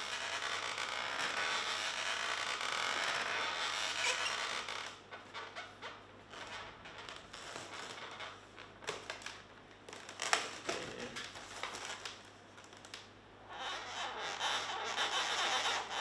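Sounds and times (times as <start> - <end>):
balloons rubbing and creaking: 0.0 - 16.0.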